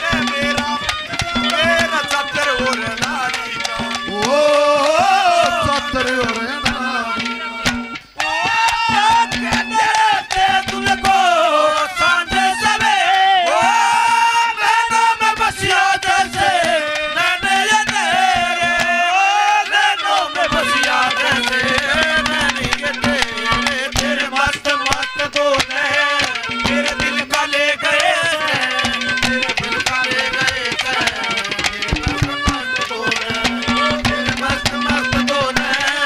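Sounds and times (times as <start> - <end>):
fast hand drumming: 0.0 - 36.0.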